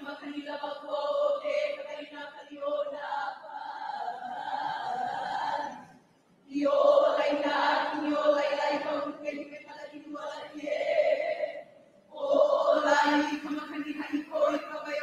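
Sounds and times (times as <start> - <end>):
women chanting in unison: 0.0 - 5.9, 6.5 - 15.0.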